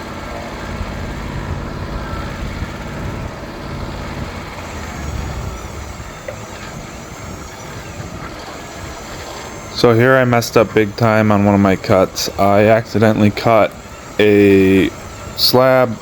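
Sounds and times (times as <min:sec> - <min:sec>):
sawmill engine humming: 0:00.0 - 0:16.0.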